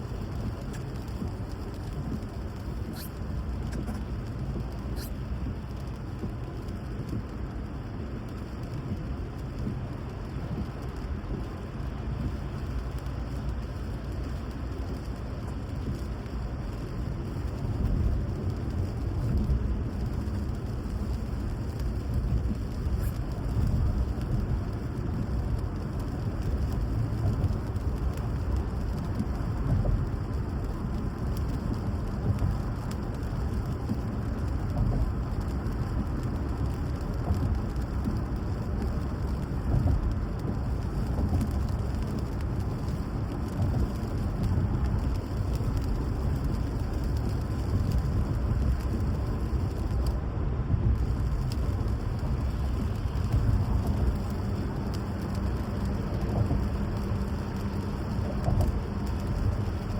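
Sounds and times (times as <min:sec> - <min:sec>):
low rumble: 0:00.0 - 0:59.9
steady rain: 0:00.0 - 0:59.9.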